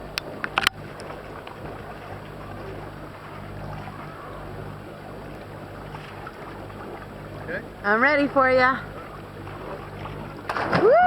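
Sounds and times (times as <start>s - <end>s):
boat engine humming: 0.0s - 11.0s
water wash: 0.0s - 11.0s.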